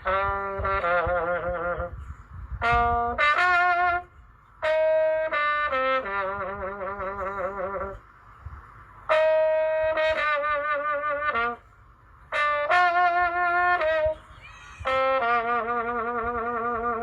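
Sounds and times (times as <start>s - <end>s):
solo trumpet slow melody: 0.0s - 8.1s, 9.1s - 14.2s, 14.8s - 17.0s.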